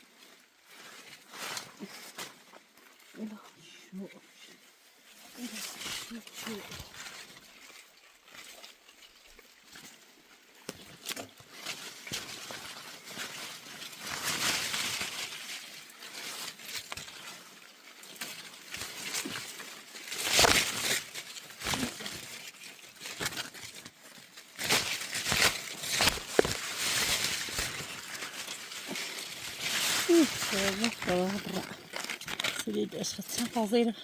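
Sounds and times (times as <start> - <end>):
leaves and branches rustling: 0.0 - 34.0.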